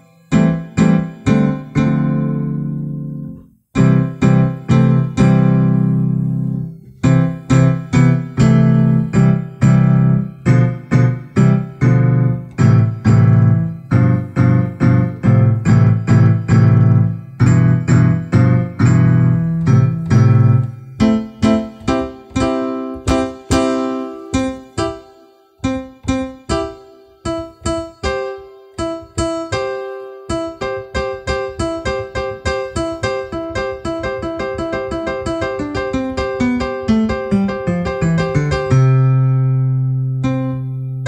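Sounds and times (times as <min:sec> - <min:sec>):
electric piano playing a tune: 0:00.0 - 0:41.0.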